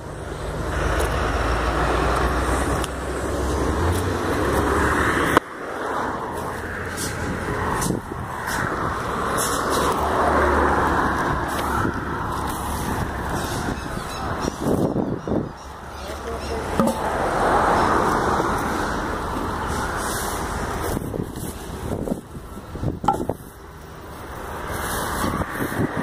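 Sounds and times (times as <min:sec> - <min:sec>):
highway traffic passing: 0:00.0 - 0:26.0.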